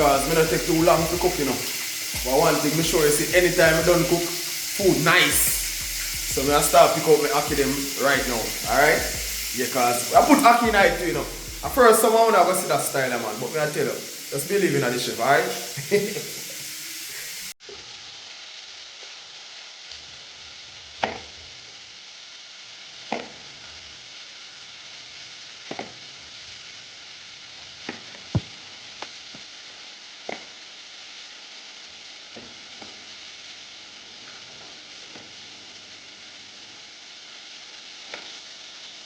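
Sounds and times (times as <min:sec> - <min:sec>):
fish sizzling in oil: 0:00.0 - 0:39.0.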